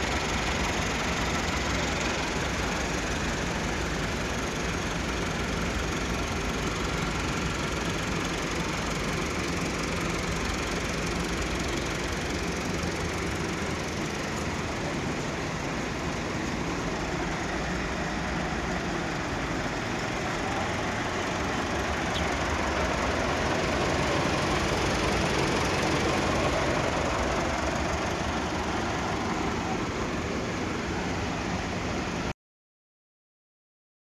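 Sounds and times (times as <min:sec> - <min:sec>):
engine running steadily: 0:00.0 - 0:32.3.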